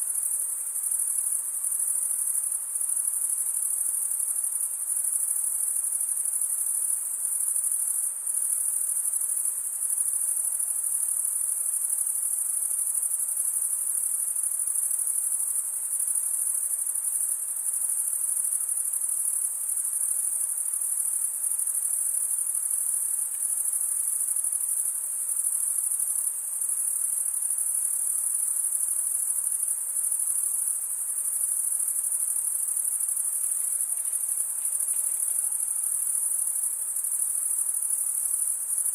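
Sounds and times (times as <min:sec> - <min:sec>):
crickets trilling: 0:00.2 - 0:38.9.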